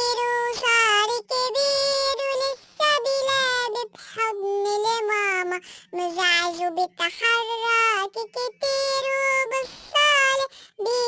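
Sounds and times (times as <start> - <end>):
child-like voice singing: 0.0 - 11.0.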